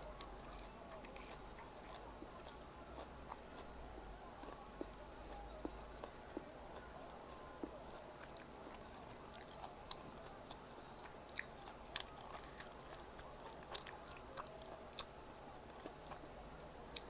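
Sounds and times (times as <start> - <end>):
chewing crunchy snack: 0.0 - 16.3.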